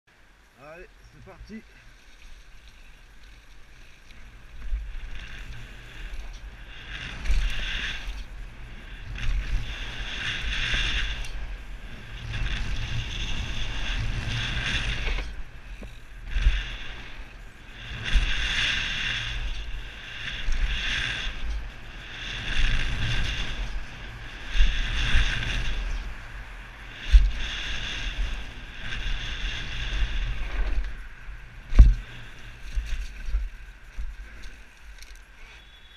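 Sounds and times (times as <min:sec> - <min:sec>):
bike tyres rumbling and rattling: 0:00.6 - 0:35.9
wind buffeting microphone: 0:03.7 - 0:35.9.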